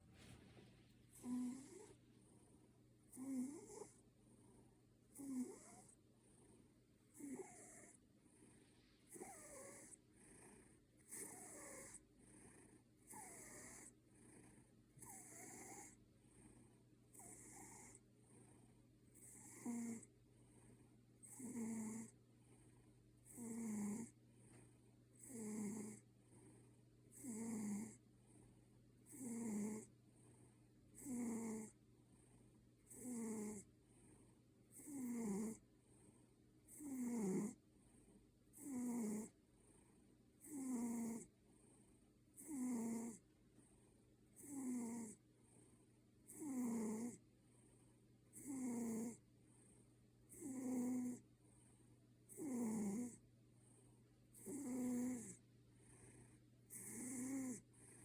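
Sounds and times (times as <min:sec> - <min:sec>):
cat snoring: 0:01.1 - 0:43.8, 0:44.4 - 0:58.0.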